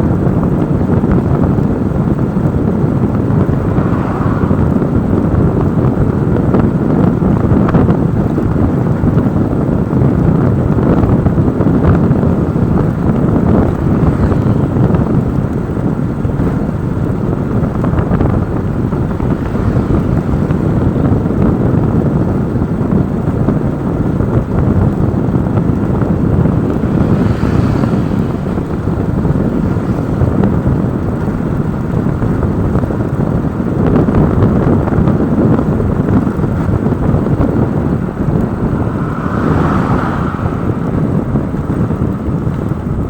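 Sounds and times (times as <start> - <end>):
vehicles moving on road: 0.0 - 43.0
wind rush on microphone: 0.0 - 43.0.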